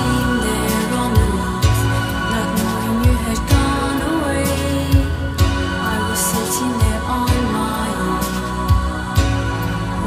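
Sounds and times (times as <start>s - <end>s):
synth-pop music: 0.0s - 10.0s.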